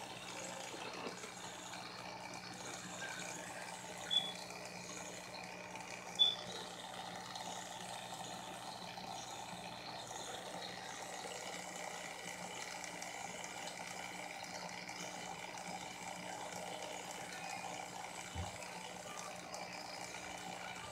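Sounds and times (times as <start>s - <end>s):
low motor hum: 0.0s - 20.9s.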